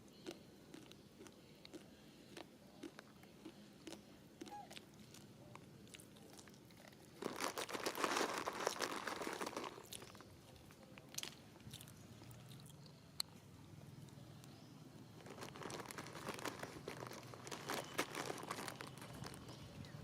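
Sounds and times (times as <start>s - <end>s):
monkey chewing crunchy food: 0.0s - 13.4s, 15.2s - 20.0s.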